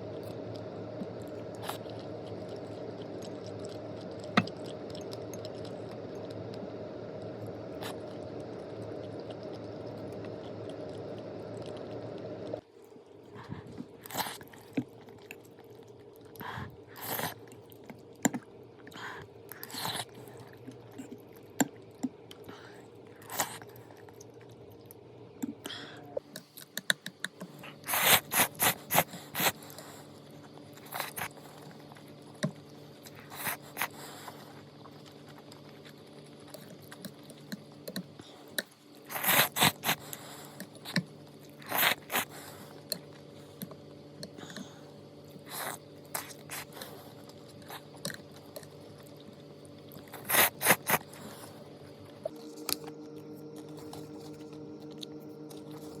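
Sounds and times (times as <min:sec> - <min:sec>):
person chewing crisp food: 0:00.0 - 0:56.0
steady background hum: 0:00.0 - 0:56.0.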